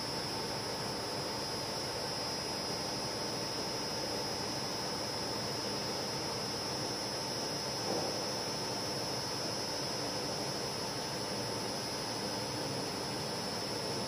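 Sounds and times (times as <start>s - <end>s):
constant motor whine: 0.0s - 14.0s.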